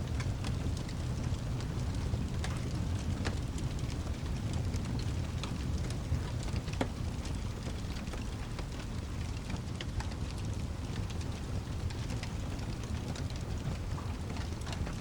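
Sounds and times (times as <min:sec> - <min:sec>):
steady rain: 0:00.0 - 0:15.0
sharp ticks and crackles: 0:00.1 - 0:15.0.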